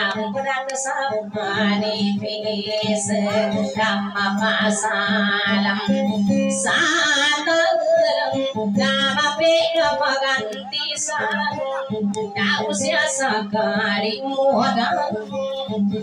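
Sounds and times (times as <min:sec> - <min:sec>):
guitar: 0:00.0 - 0:16.0
woman singing into a microphone: 0:00.0 - 0:16.0.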